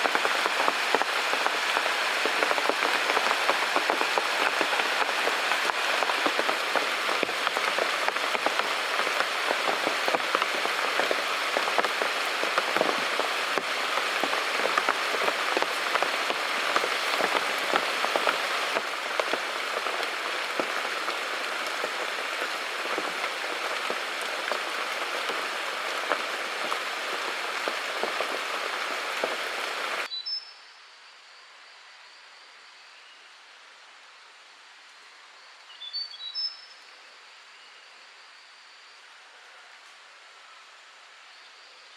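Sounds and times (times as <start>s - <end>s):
steady rain falling: 0.0s - 30.1s, 31.4s - 41.9s.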